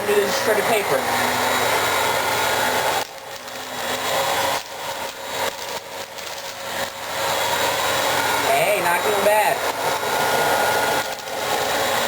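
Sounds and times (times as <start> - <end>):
vacuum motor airflow: 0.0 - 12.0
vacuum scraping paper on carpet: 0.0 - 12.0.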